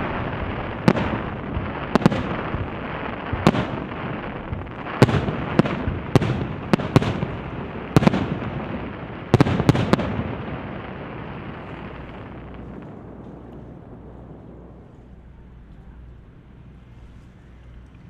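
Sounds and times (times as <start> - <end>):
fireworks rumble and crackle: 0.0 - 18.0.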